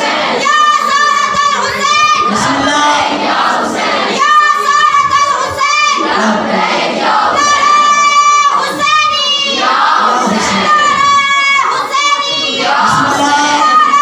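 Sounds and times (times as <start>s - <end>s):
high voice singing: 0.0s - 14.0s.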